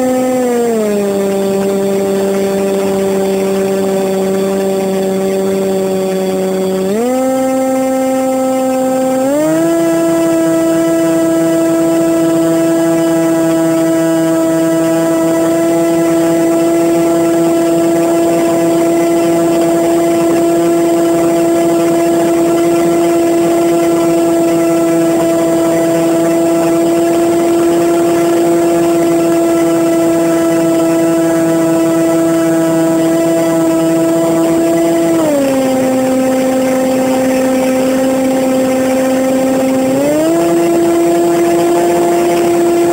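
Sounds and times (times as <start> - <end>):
model plane motor whine: 0.0 - 42.9.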